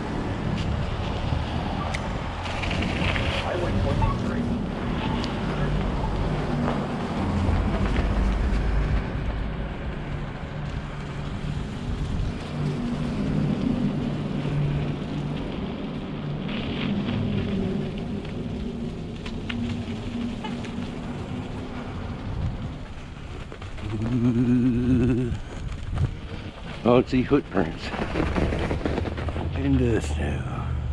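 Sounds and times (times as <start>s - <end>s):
bicycle tyres rolling over snow: 0.0s - 30.9s
wind rumbling on microphone: 0.0s - 30.9s.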